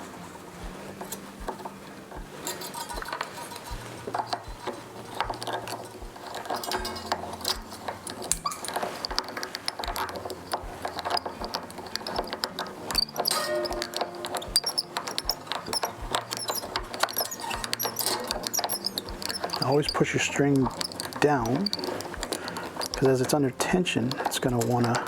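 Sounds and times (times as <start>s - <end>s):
backing music with bass line: 0.0s - 23.8s
guitar string winding clicks: 0.9s - 25.0s.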